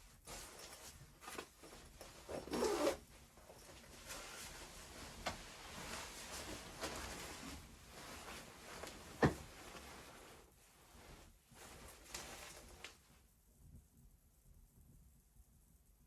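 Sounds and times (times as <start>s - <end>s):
faint rustling and handling noises: 0.0s - 14.1s.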